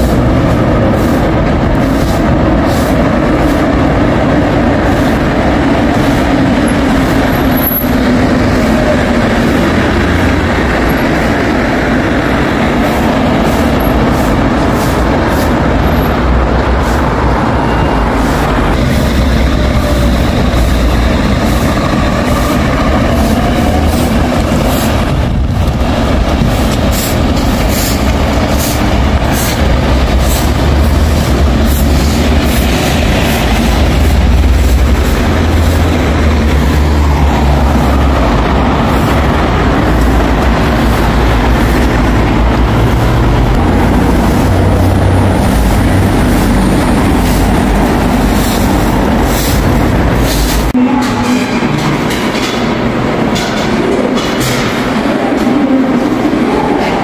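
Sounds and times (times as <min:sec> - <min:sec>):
subway train wheels rumbling: 0:00.0 - 0:57.0.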